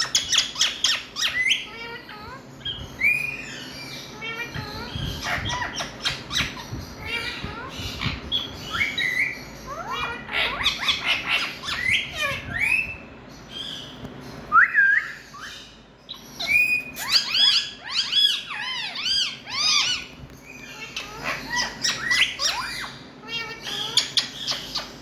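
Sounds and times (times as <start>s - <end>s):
parakeet squawking calls: 0.0s - 14.0s, 15.1s - 25.0s.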